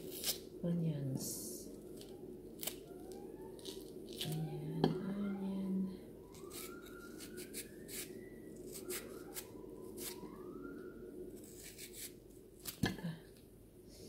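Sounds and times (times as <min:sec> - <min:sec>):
faint rising wails: 0:00.0 - 0:14.0.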